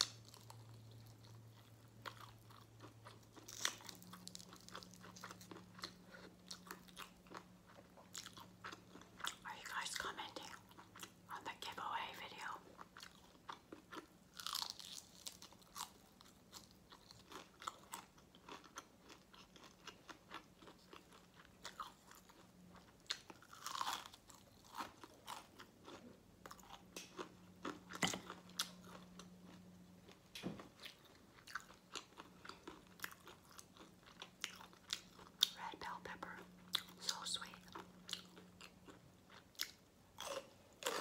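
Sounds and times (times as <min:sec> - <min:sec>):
crunchy chewing of fried chicken: 0:00.0 - 0:41.0.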